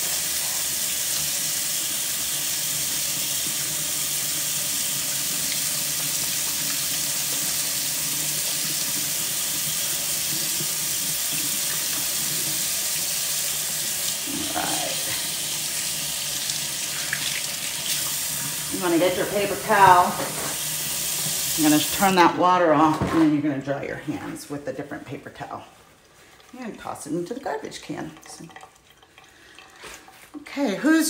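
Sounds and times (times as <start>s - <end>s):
tap water running into sink: 0.0s - 22.2s, 26.4s - 30.3s.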